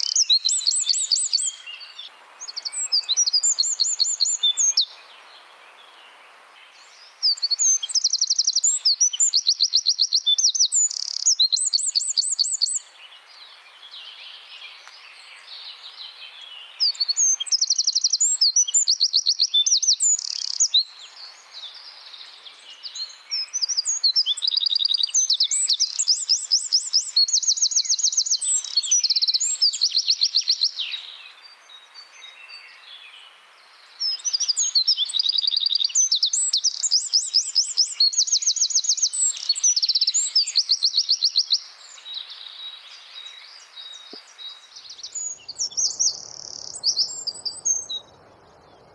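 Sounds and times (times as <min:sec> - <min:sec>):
wren singing fast trills: 0:00.0 - 0:05.0, 0:06.8 - 0:12.9, 0:16.5 - 0:21.8, 0:22.6 - 0:32.8, 0:34.0 - 0:48.9.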